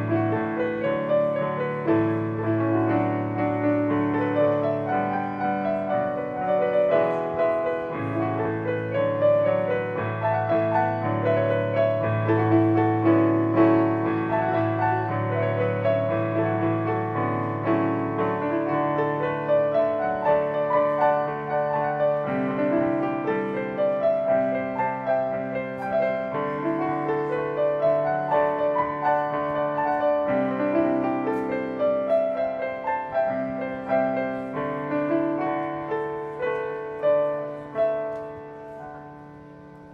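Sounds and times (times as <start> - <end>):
piano piece: 0.0 - 39.9.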